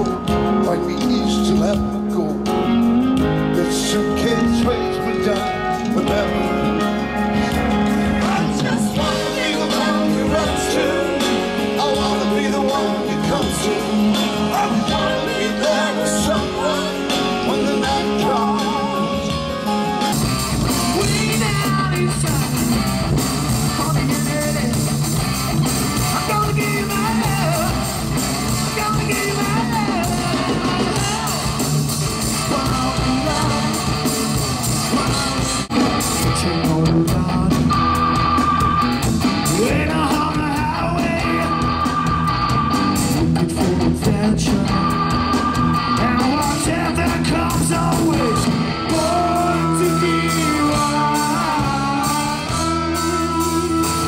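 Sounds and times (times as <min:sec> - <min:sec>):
man singing: 0:00.0 - 0:22.8, 0:23.5 - 0:25.0, 0:26.0 - 0:54.0
live rock band: 0:00.0 - 0:54.0.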